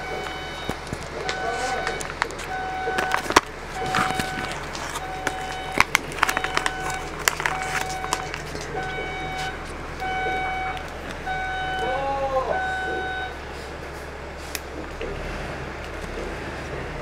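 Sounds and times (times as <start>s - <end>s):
vehicle reversing alarm beeping: 0.0s - 14.4s.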